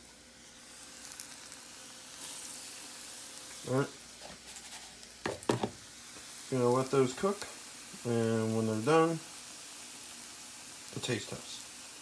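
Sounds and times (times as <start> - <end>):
meat sizzling in frying oil: 0.0 - 12.0.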